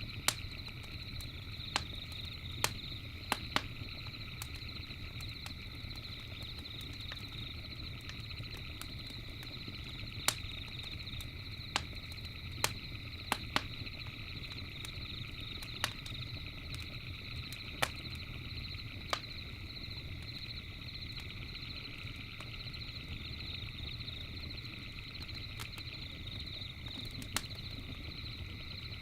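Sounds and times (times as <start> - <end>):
campfire crackling: 0.0 - 29.0
sharp pops from fire: 0.0 - 29.0.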